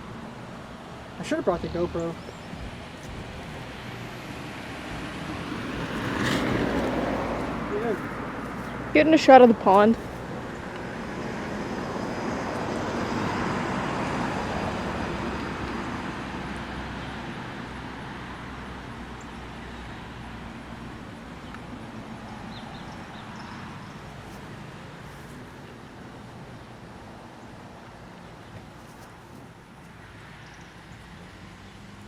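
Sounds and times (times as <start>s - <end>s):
vehicle passing by: 0.0s - 32.0s.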